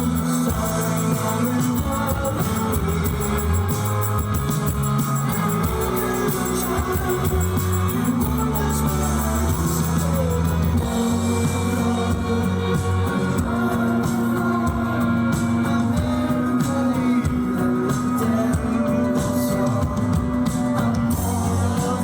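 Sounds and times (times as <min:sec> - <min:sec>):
person singing: 0:00.0 - 0:22.0
rock band playing: 0:00.0 - 0:22.0.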